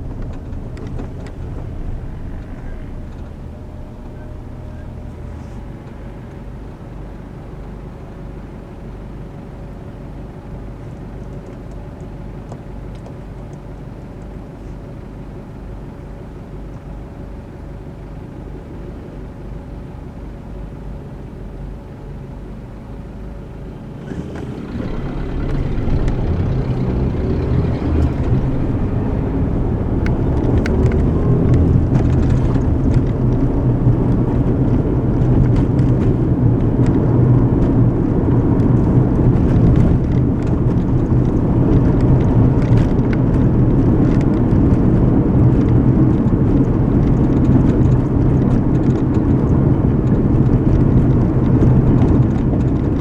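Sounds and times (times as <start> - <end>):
car engine and road hum: 0.0 - 53.0.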